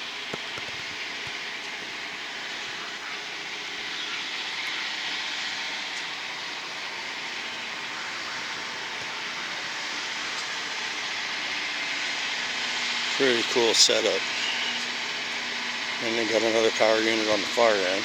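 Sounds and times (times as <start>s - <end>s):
vehicle engine noise: 0.0s - 18.0s.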